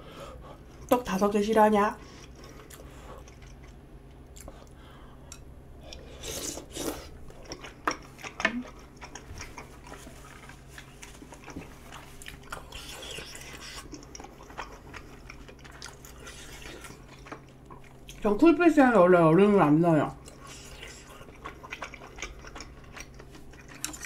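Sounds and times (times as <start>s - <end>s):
faint steady hum: 0.0s - 24.0s
person chewing food: 2.0s - 18.2s, 20.2s - 24.0s.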